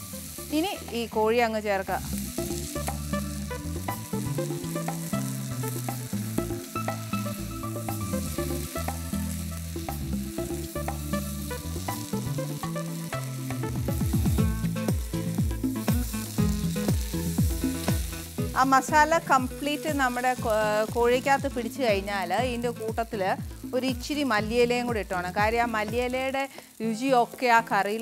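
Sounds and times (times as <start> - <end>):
chicken sizzling in pan: 0.0 - 28.0.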